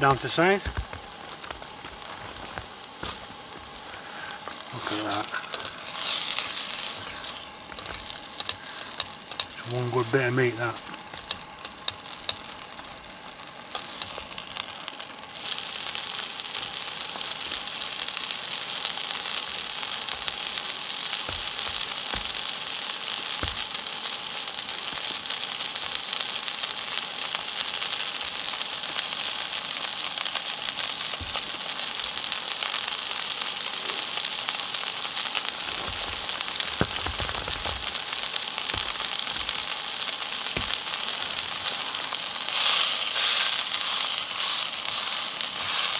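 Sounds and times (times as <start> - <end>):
steak sizzling in a frying pan: 0.0 - 45.9.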